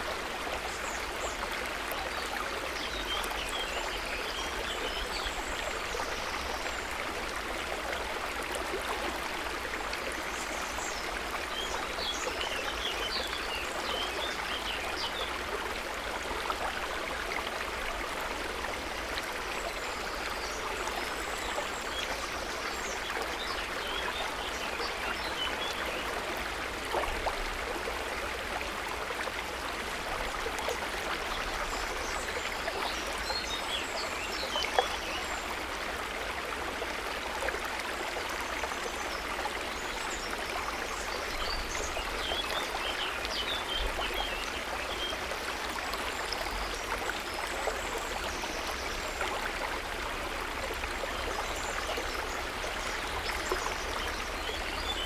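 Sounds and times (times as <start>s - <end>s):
river water over stones: 0.0s - 55.0s.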